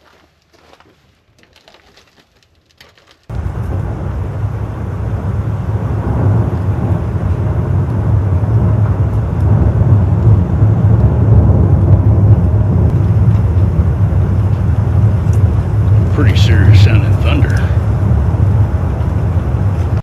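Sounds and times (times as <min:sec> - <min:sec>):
rolling thunder rumble: 0:03.3 - 0:20.0.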